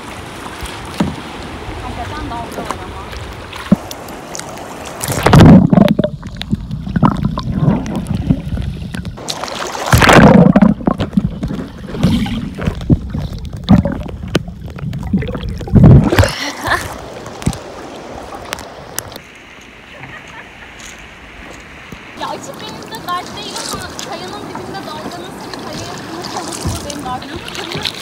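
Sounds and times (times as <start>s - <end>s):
water splashing and sloshing: 0.0s - 28.0s.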